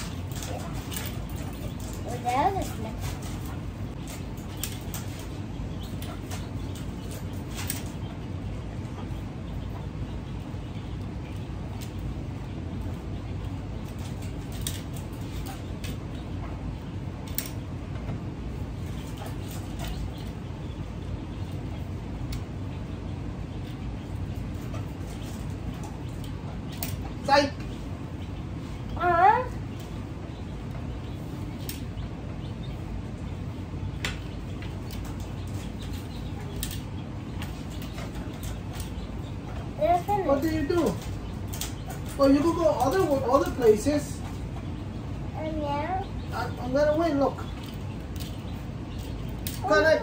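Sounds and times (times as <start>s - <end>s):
low background noise: 0.0s - 50.0s
steady low hum: 0.0s - 50.0s.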